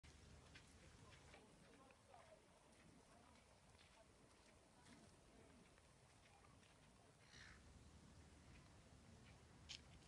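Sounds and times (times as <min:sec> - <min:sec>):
faint low outdoor rumble: 0:00.0 - 0:10.0.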